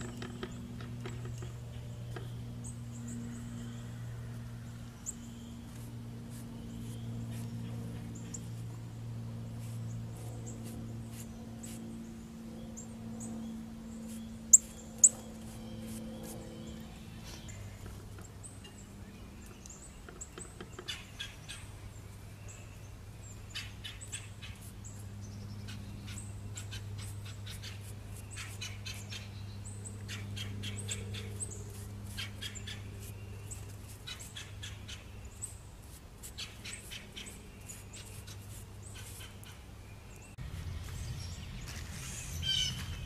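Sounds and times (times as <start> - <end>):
small birds chirping: 0.0 - 43.0
steady low hum: 0.0 - 43.0.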